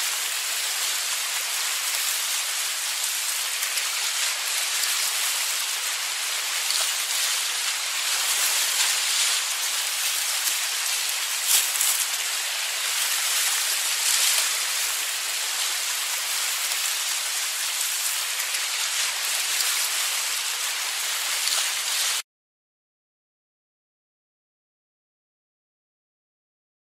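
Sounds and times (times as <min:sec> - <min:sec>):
ocean surf on a beach: 0:00.0 - 0:22.2.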